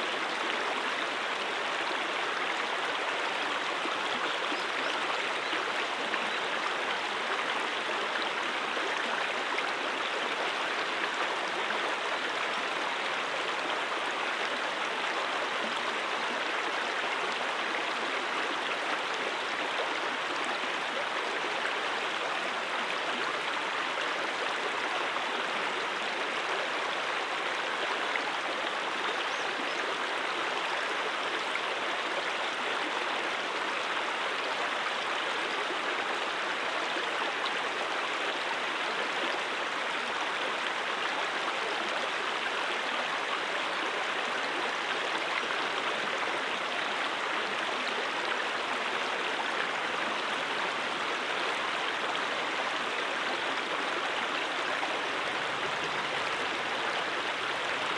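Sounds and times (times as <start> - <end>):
brook water rushing: 0.0 - 57.9.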